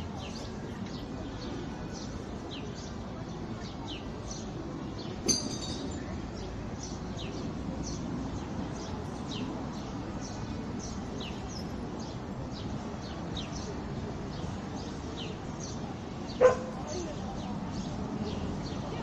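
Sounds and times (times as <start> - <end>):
open-air ambient hum: 0.0 - 19.0.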